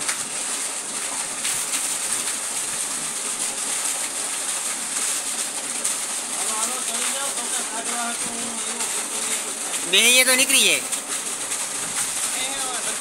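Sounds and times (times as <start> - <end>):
rushing hissing water: 0.0 - 13.0.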